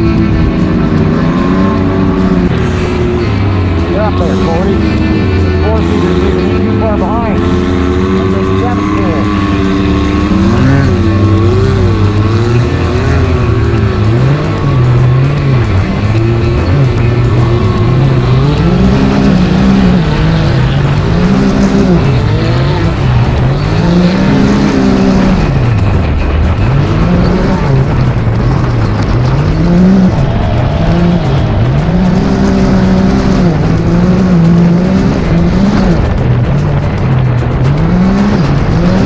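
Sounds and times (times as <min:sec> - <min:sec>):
engines revving: 0:00.0 - 0:39.0.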